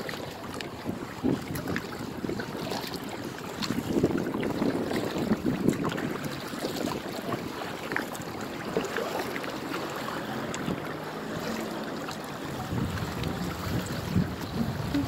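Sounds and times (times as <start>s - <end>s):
wind on microphone: 0.0s - 9.1s, 10.4s - 15.0s
paddles splashing in water: 0.0s - 15.0s
waves lapping at hulls: 0.0s - 15.0s.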